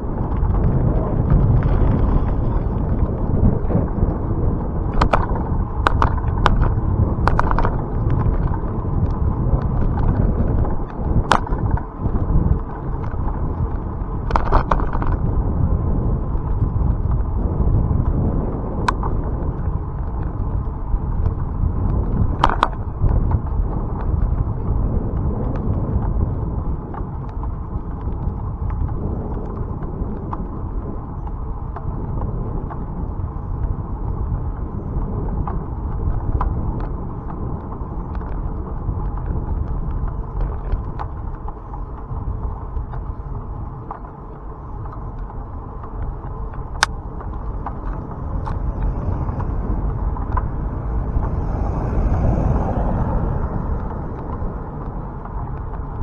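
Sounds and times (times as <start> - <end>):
bicycle tyres rumbling: 0.0 - 56.0
wind on microphone: 0.0 - 56.0.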